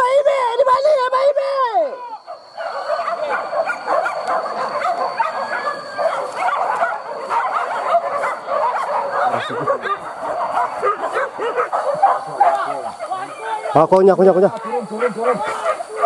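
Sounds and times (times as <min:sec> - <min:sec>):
dogs yelping and barking: 0:01.4 - 0:16.0.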